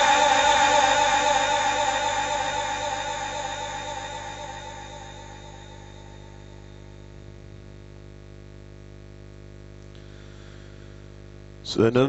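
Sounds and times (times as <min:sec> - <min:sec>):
electrical hum and buzz: 0:00.0 - 0:12.0.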